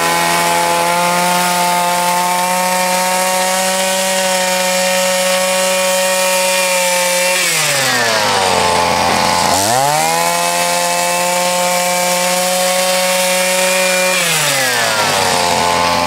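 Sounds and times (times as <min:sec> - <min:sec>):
two-stroke snow sweeper engine: 0:00.0 - 0:16.0.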